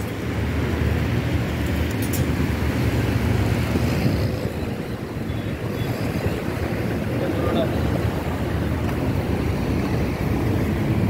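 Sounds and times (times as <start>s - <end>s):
fan blowing air: 0.0s - 11.0s.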